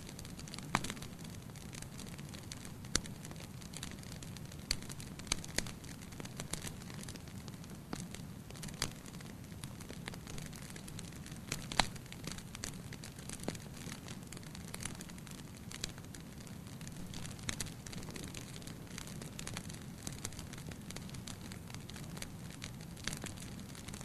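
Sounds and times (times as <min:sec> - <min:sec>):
fire crackling and popping: 0:00.0 - 0:24.0
low rumble of fire: 0:00.0 - 0:24.0.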